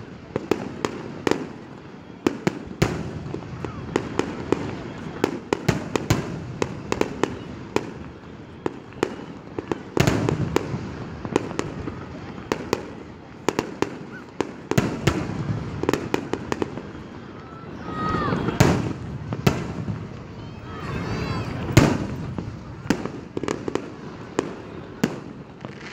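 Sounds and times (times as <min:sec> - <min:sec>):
fireworks bursting: 0:00.0 - 0:25.9.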